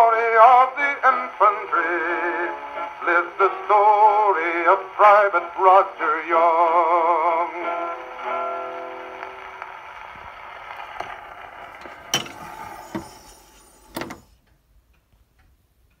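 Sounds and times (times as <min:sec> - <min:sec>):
record music chord: 0:00.0 - 0:13.3
record surface hiss: 0:00.0 - 0:16.0.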